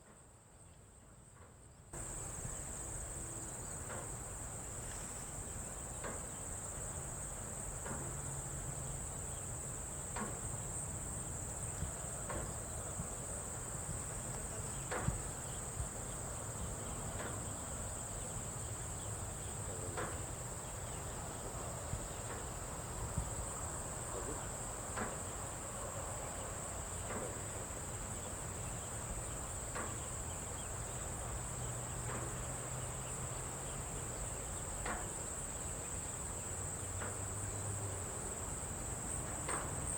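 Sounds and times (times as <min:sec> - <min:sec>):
crickets chirring: 0:02.0 - 0:39.9.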